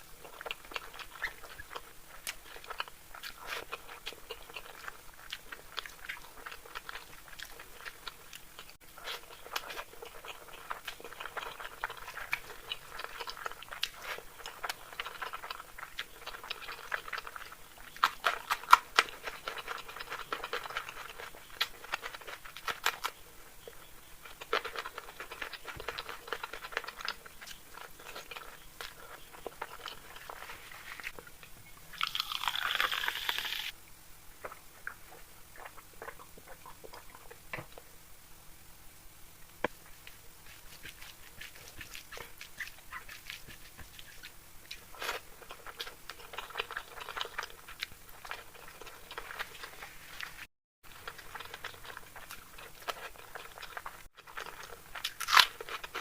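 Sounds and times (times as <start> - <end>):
wet chewing and mouth smacks: 0.2 - 31.2, 32.0 - 33.7, 34.4 - 37.9, 39.7 - 56.0.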